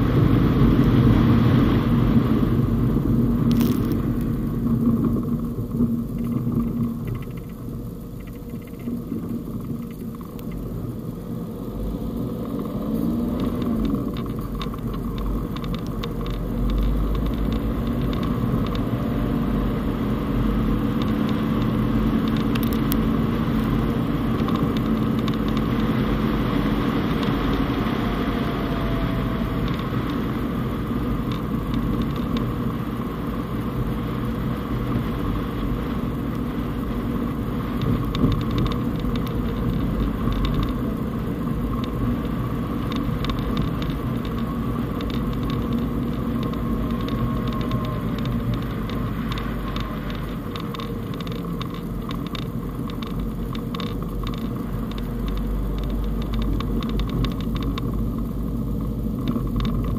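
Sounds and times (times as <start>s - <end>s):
car engine and tyre rumble: 0.0s - 59.9s
light crackles: 0.8s - 59.9s.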